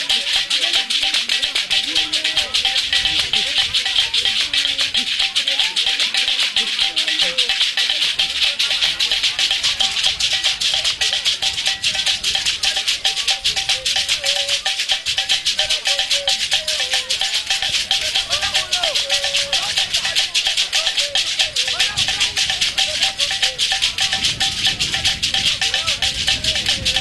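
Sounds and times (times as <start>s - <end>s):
rattles shaken in quick beat: 0.0s - 27.0s.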